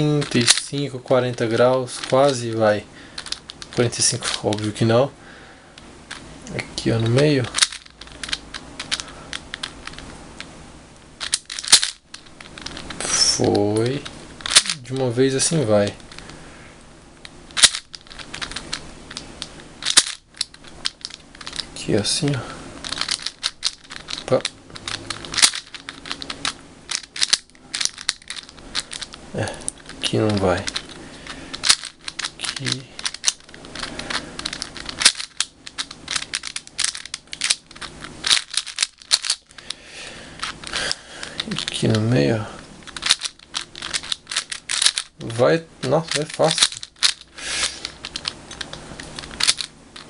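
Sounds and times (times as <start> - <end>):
plastic puzzle cube clacking: 0.0 - 4.8, 6.1 - 10.1, 11.2 - 16.4, 17.2 - 21.7, 22.8 - 39.7, 40.4 - 42.1, 42.8 - 50.0.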